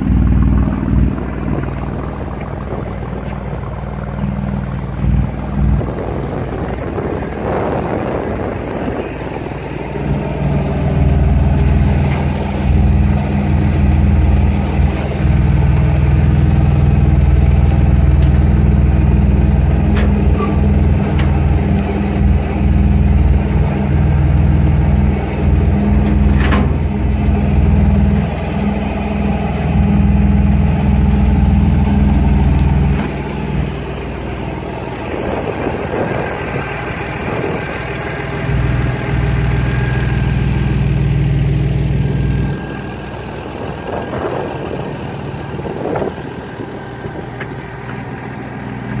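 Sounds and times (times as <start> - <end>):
engine idling with low rumble: 0.0 - 49.0.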